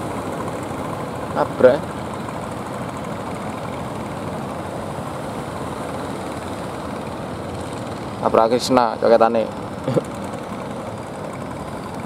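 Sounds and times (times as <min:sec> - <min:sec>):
boat engines droning: 0:00.0 - 0:12.0
waves and water washing: 0:00.0 - 0:12.0.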